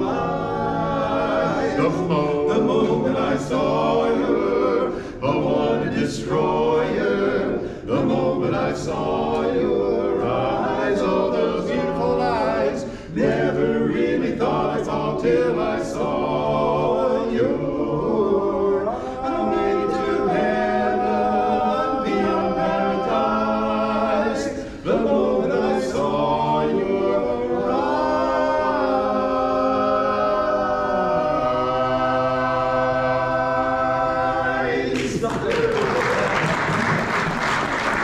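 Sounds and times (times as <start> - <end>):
male quartet singing a cappella: 0.0 - 37.0.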